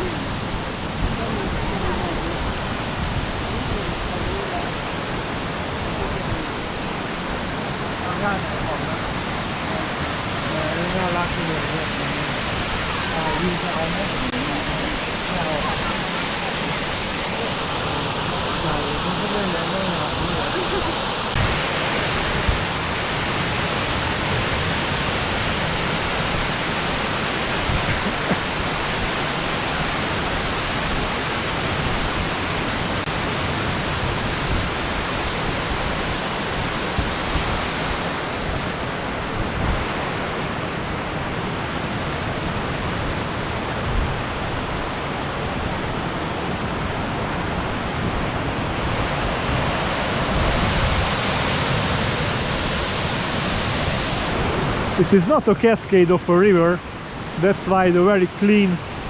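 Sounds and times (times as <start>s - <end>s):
waterfall splashing: 0.0s - 59.0s.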